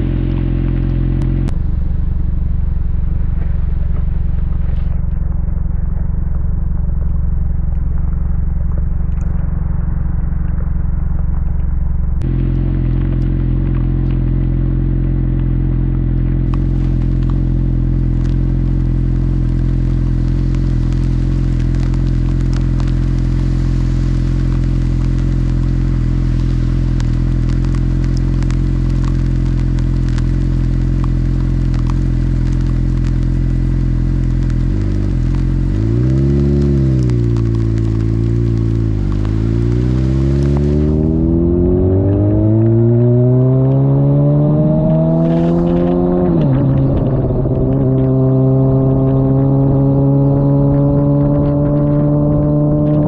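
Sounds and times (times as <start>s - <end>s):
motorcycle engine running: 0.0s - 53.0s
rain crackling: 0.0s - 53.0s.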